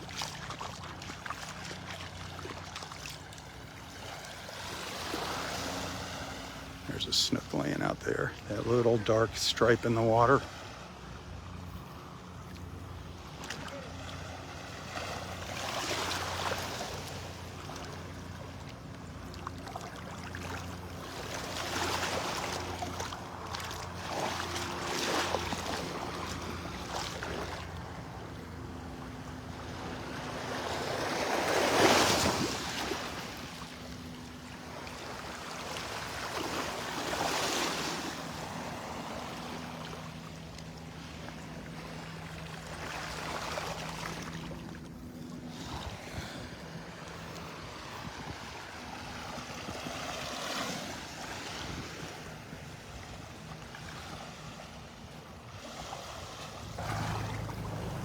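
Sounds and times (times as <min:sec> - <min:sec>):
small waves washing onto beach: 0:00.0 - 0:58.0.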